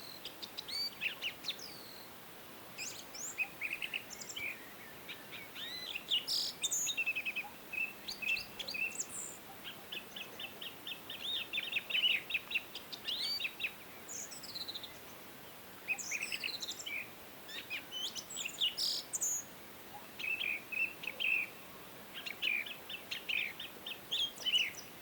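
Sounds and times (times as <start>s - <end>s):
faint stream rushing: 0.0s - 25.0s
songbirds chirping: 0.0s - 25.0s.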